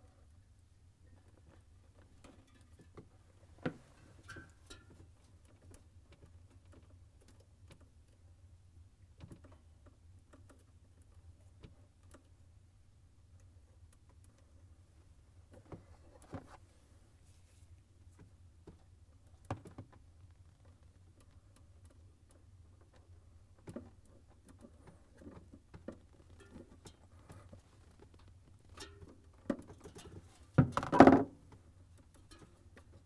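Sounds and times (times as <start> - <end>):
small clicks and rustles: 0.0 - 33.0.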